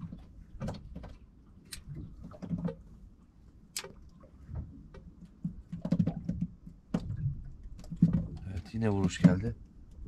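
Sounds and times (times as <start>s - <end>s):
low rumble of wind and water: 0.0s - 10.0s.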